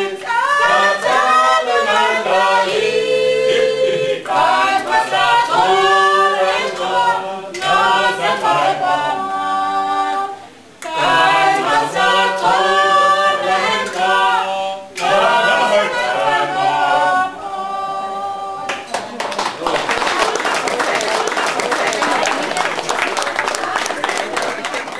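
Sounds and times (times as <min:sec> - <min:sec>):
group singing a cappella: 0:00.0 - 0:23.0.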